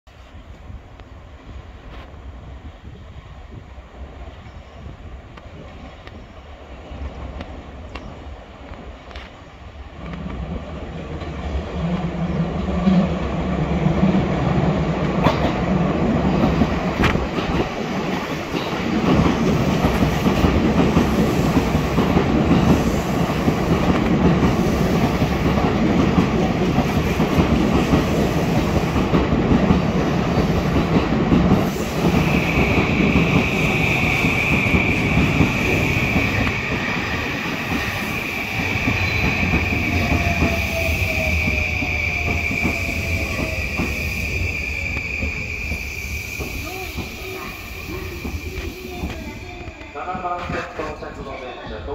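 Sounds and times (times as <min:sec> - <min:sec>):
train rolling rumble: 0:00.1 - 0:51.9.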